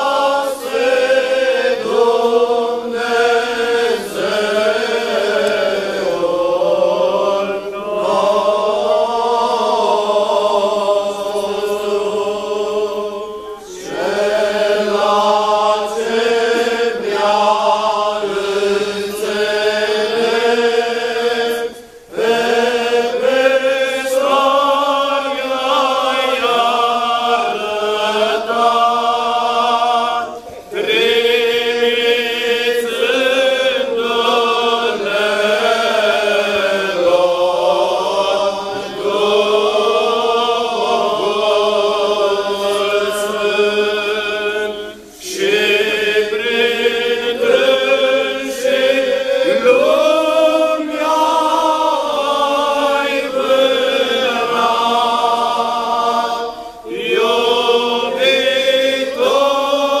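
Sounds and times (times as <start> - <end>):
group singing liturgical chant: 0.0 - 60.0.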